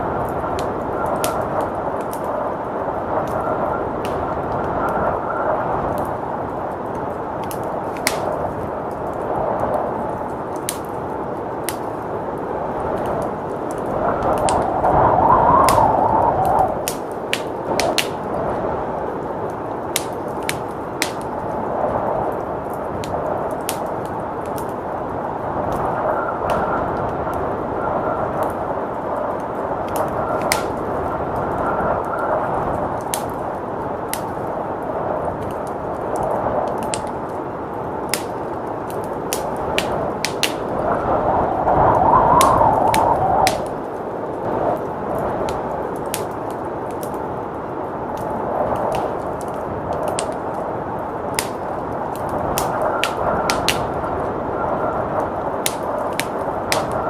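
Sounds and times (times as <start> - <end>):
blizzard wind rushing: 0.0 - 57.0
wood fire crackling in fireplace: 0.0 - 57.0.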